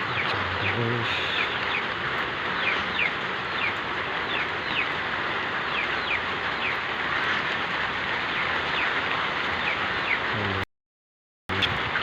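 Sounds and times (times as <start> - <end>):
heavy rain: 0.0 - 10.6, 11.5 - 12.0.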